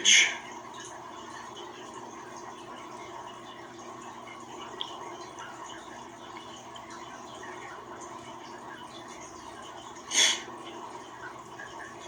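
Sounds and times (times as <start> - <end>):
faint hiss and hum: 0.0 - 12.0.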